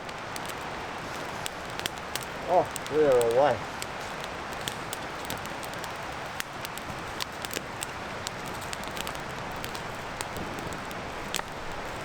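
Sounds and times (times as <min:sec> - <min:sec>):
campfire crackling and popping: 0:00.0 - 0:12.0
steady hiss: 0:00.0 - 0:12.0.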